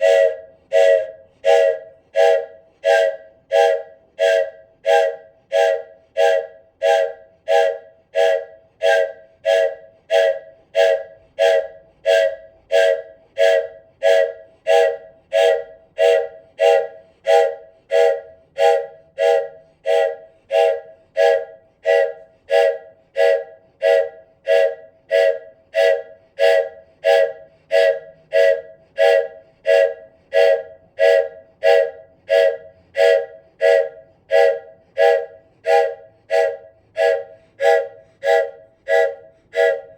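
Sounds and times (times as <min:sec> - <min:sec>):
toy train whistle toots: 0:00.0 - 0:39.9.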